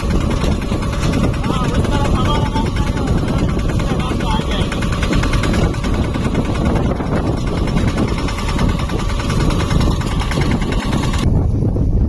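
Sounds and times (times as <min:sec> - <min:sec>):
tractor diesel engine running: 0:00.0 - 0:11.7.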